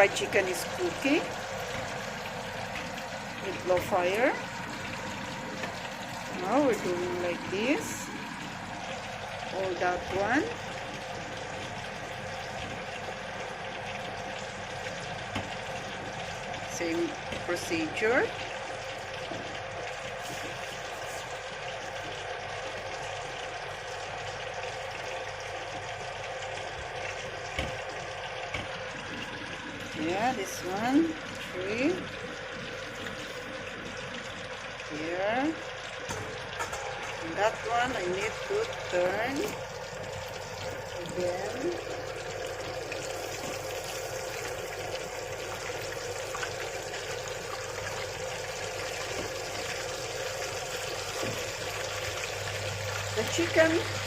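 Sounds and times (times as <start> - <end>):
chicken frying in oil: 0.0 - 54.0.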